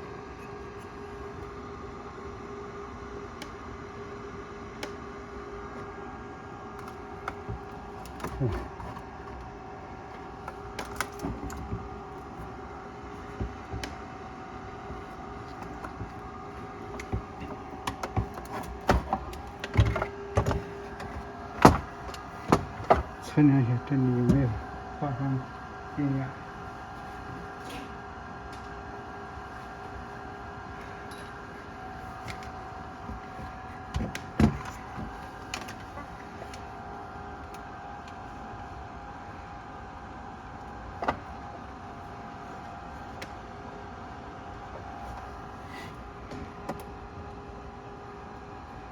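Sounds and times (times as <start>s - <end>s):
faint hum: 0.0s - 48.9s.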